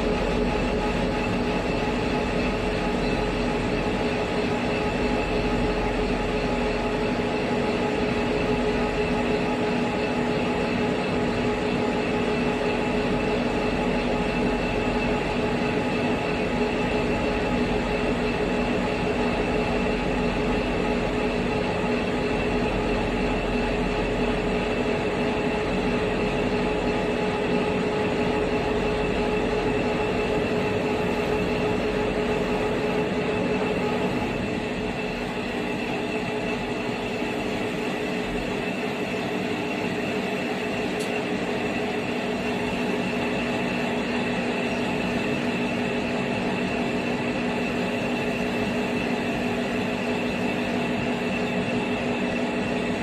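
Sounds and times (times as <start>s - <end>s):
milling machine running: 0.0s - 53.0s.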